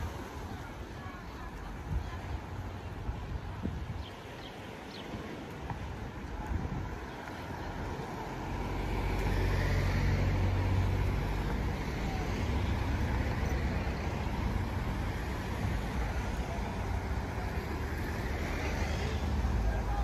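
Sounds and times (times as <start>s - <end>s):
steady traffic hum: 0.0s - 20.0s
vehicle engine rumble and tyre noise: 0.0s - 20.0s.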